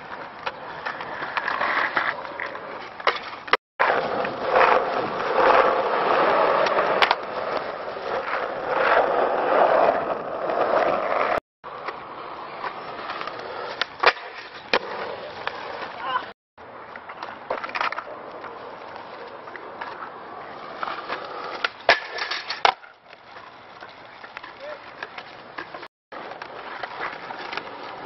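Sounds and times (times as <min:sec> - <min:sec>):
skateboard clacking on ground: 0:00.0 - 0:28.0
skateboard wheels rolling on asphalt: 0:00.0 - 0:28.0.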